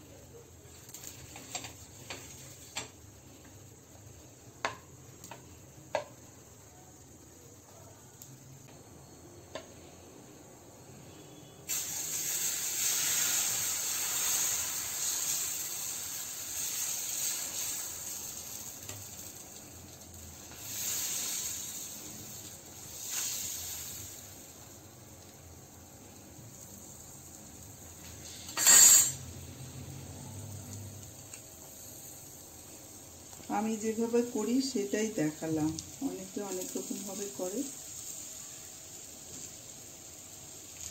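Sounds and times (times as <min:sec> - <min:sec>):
batter sizzling in a pan: 0:00.0 - 0:40.9.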